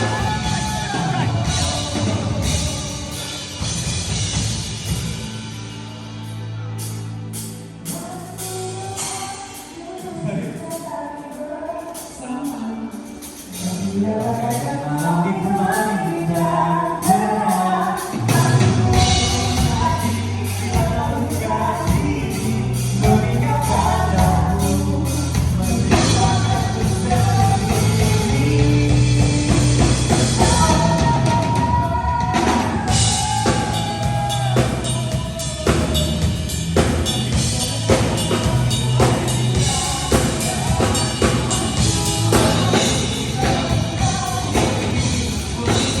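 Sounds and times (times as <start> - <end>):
person singing: 0.0 - 4.2, 7.8 - 46.0
drum kit beat: 0.0 - 11.0, 13.0 - 46.0
live rock band playing: 0.0 - 46.0.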